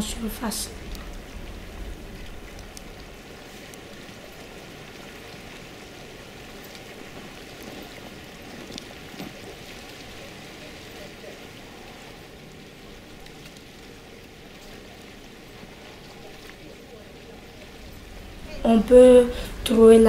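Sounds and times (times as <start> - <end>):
faint clicks and splashes: 0.0 - 19.8
lake water washing: 0.0 - 20.0.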